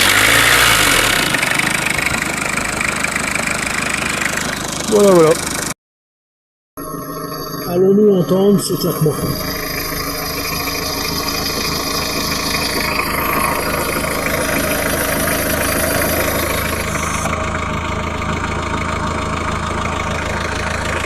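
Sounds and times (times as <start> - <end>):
diesel engine idling: 0.0 - 5.8, 6.8 - 21.0.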